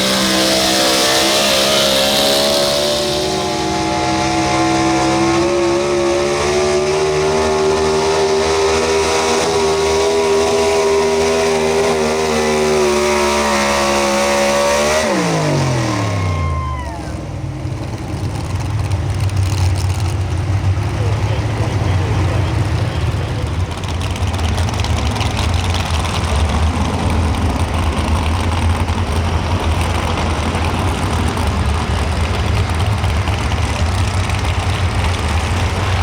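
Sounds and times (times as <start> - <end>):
truck engine revving under load: 0.0 - 36.0.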